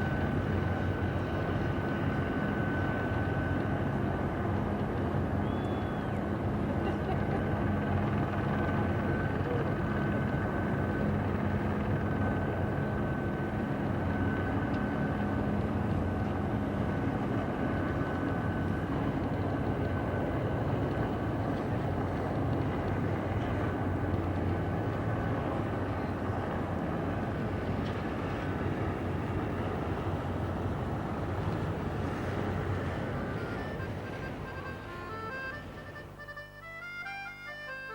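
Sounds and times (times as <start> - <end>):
faint high whine: 0.0 - 27.6, 28.2 - 37.4
engine drone: 0.0 - 37.9.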